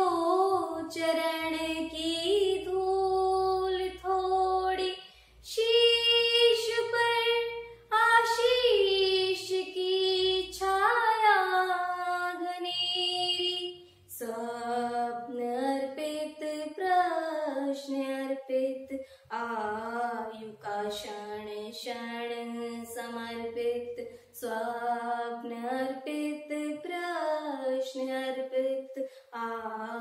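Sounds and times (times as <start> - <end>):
girl singing unaccompanied: 0.0 - 30.0.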